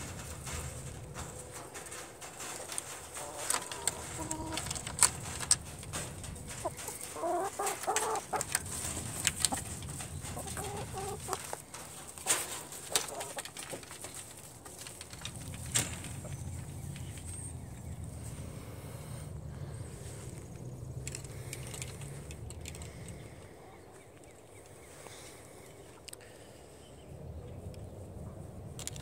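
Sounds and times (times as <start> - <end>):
hens clucking: 0.0 - 24.8.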